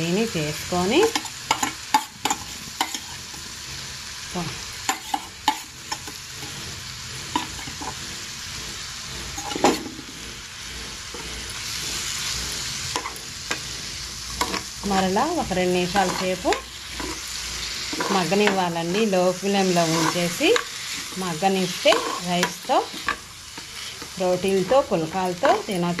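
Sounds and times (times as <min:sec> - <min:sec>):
food sizzling in a frying pan: 0:00.0 - 0:26.0
ladle scraping a pan: 0:01.1 - 0:03.5, 0:04.9 - 0:26.0.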